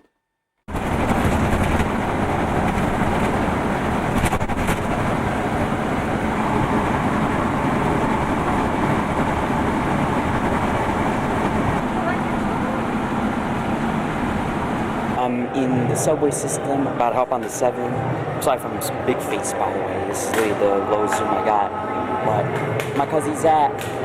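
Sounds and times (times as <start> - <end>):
subway train rumbling on rails: 0.7 - 24.0.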